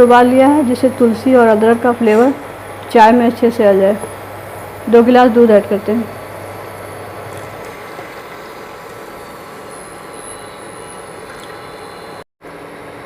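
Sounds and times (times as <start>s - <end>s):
pot heating on stove hiss: 0.0s - 12.8s.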